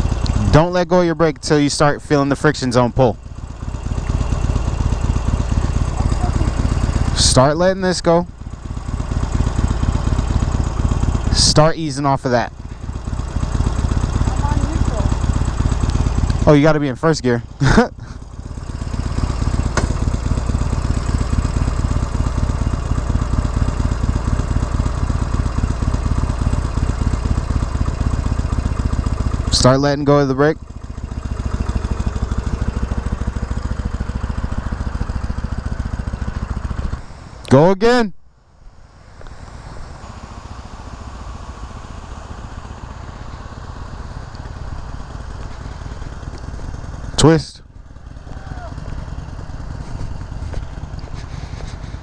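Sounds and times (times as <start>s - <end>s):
motorcycle engine idling: 0.0s - 37.7s, 38.3s - 52.0s.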